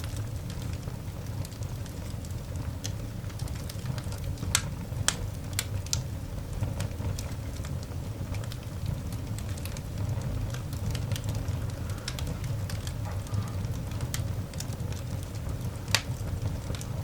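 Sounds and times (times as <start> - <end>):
coal fire crackling and popping: 0.0 - 17.0
low fire rumble: 0.0 - 17.0.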